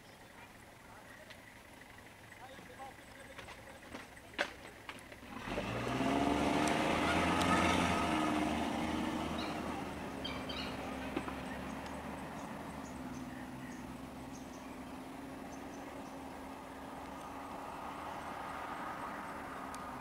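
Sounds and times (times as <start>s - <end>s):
van engine pulling away: 0.0s - 20.0s.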